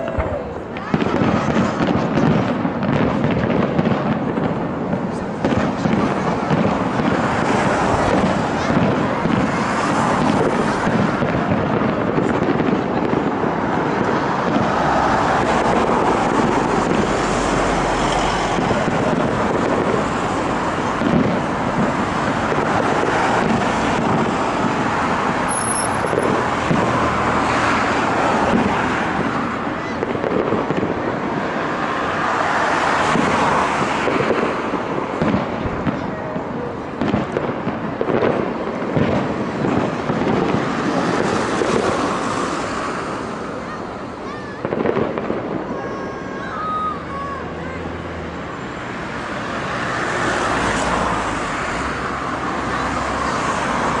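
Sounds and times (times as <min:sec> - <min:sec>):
constant background noise: 0:00.0 - 0:54.0
fireworks bangs and crackles: 0:00.0 - 0:54.0.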